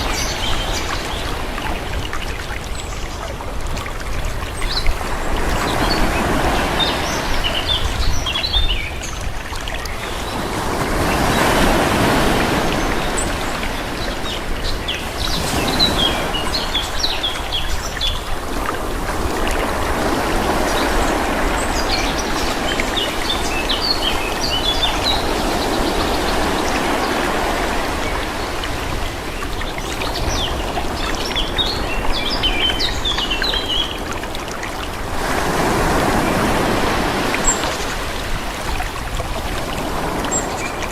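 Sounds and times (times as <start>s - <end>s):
sea waves washing: 0.0s - 40.9s.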